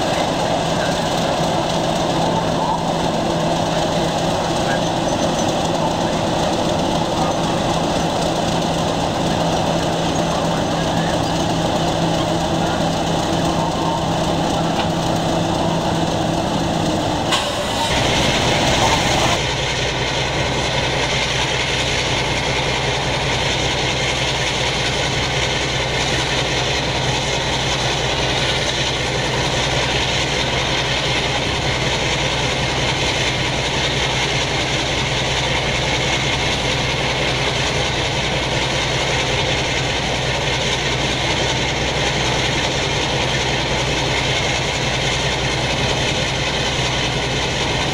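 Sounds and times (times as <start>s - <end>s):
diesel locomotive engine drone: 0.0s - 47.9s
diesel locomotive engine idling: 0.0s - 47.9s.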